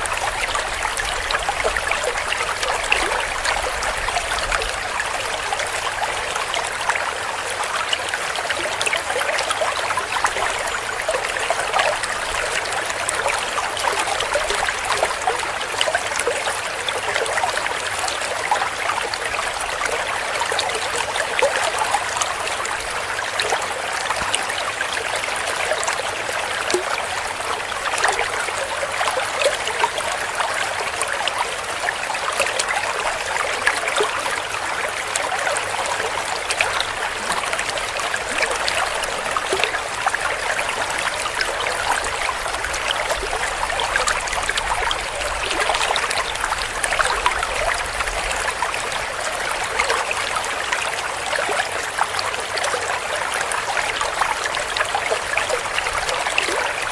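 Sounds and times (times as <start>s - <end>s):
shallow stream flowing and splashing: 0.0s - 56.9s.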